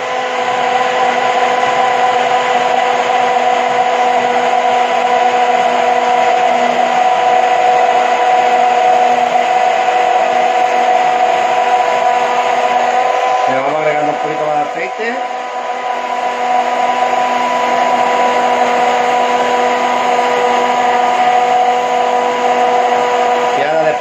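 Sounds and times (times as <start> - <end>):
immersion blender motor whine: 0.0 - 24.0.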